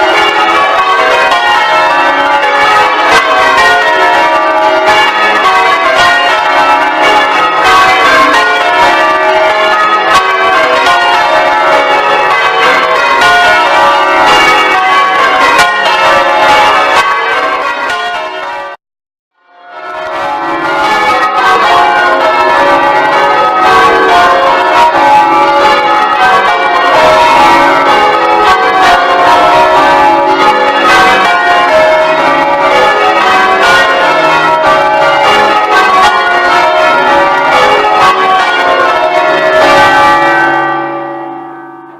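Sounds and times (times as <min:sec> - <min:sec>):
church bells change-ringing: 0:00.0 - 0:18.8, 0:19.4 - 0:41.9.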